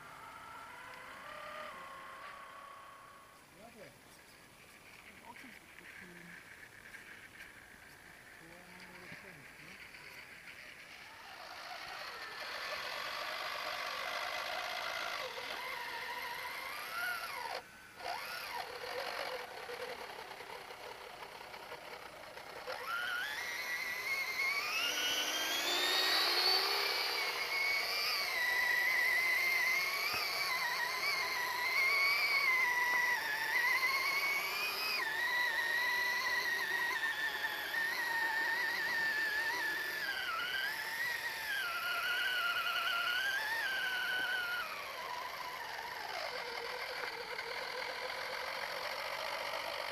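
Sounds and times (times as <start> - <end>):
electric motor whine: 0.0 - 4.0, 4.7 - 49.9.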